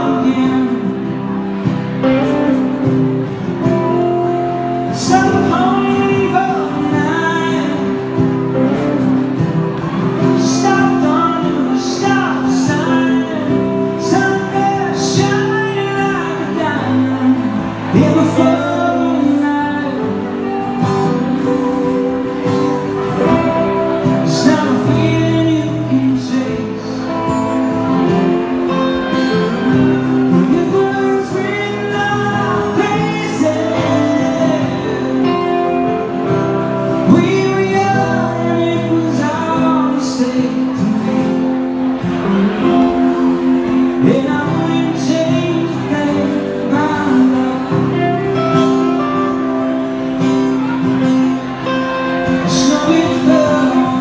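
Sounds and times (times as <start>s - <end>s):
electric guitar: 0.0s - 54.0s
man singing: 0.0s - 54.0s
strummed acoustic guitar: 0.0s - 54.0s.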